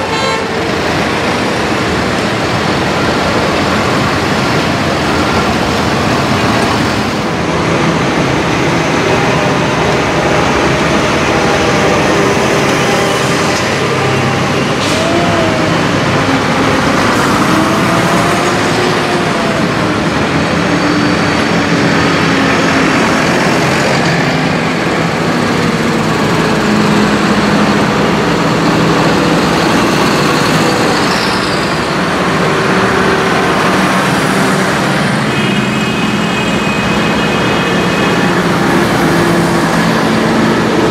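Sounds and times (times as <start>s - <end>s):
tractor diesel engines passing: 0.0s - 40.9s.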